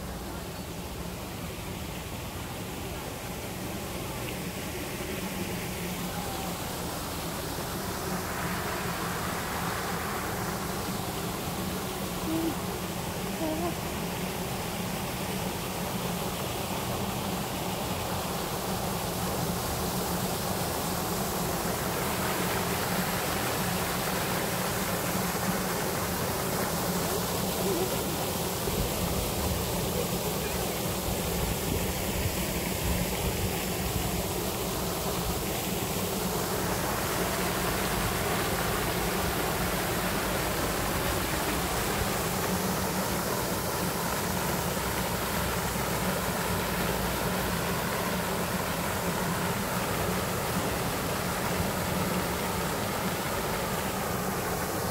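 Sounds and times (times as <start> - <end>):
fountain jet splashing water: 0.0 - 54.9.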